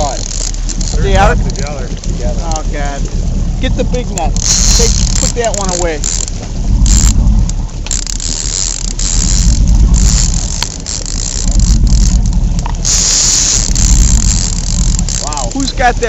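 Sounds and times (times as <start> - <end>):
boat motor rumbling: 0.0 - 16.0
wind buffeting microphone: 0.0 - 16.0.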